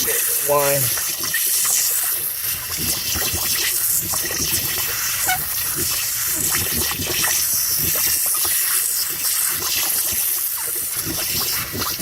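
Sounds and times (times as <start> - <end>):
small crackling splashes: 0.0 - 12.0
water hissing from a leaking pipe: 0.0 - 12.0.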